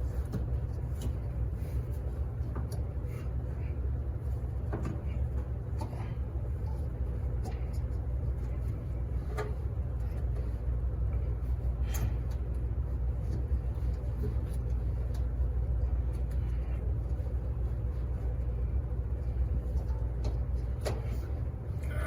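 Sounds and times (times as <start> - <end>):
laundromat machines humming: 0.0 - 22.0.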